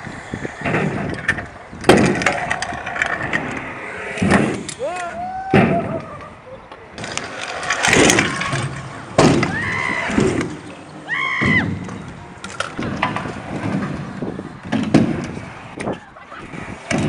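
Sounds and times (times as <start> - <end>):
scooter wheels rolling on concrete: 0.0 - 17.0
sharp clacks of scooter landings: 0.6 - 6.3, 7.0 - 16.0, 16.8 - 17.0.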